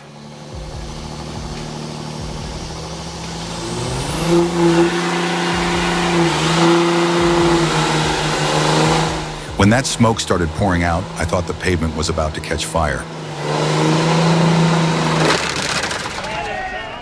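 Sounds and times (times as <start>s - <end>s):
loud hissing rush: 0.0s - 15.5s
engine at high revs: 0.0s - 16.2s.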